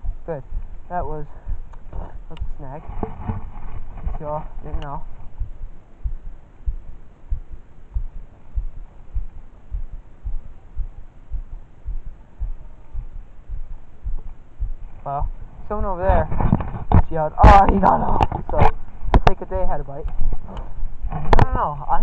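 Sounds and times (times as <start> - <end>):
dull footstep thumps: 0.0 - 21.7
faint background hiss: 0.0 - 22.0.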